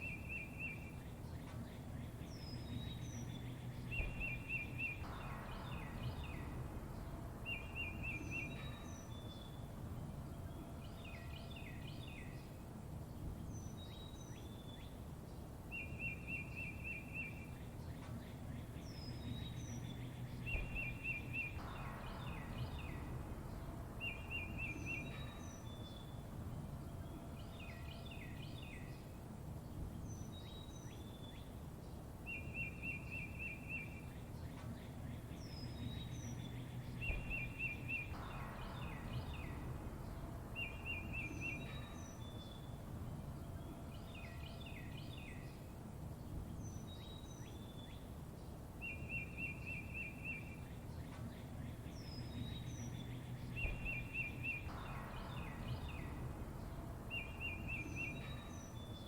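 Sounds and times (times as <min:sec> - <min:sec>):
low background rumble: 0:00.0 - 0:59.0
songbirds chirping: 0:00.0 - 0:59.0.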